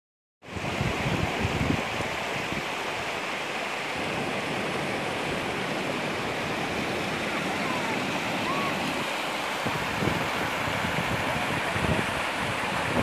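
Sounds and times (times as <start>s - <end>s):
distant waterfall: 0.4s - 13.0s
wind buffeting microphone: 0.5s - 3.0s, 4.0s - 13.0s
stream rushing over rocks: 0.5s - 13.0s.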